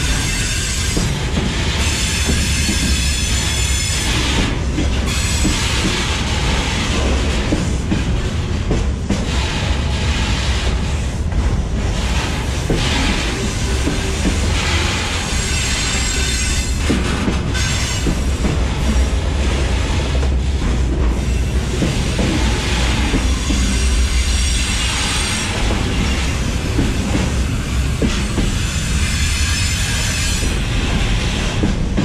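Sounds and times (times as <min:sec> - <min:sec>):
steel wheels rumbling on rail: 0:00.0 - 0:32.0.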